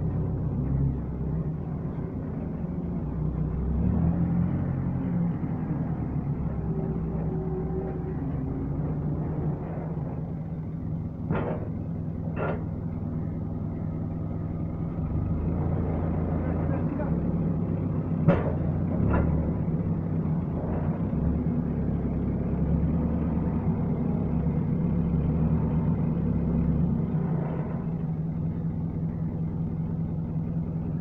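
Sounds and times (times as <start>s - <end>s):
forklift engine running: 0.0s - 31.0s.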